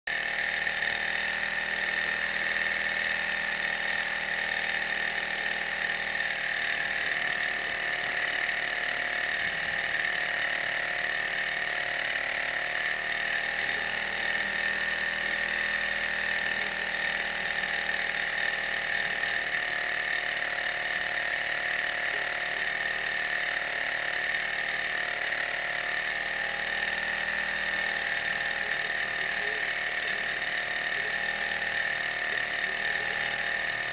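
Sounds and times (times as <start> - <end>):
small engines whirring: 0.1 - 33.9.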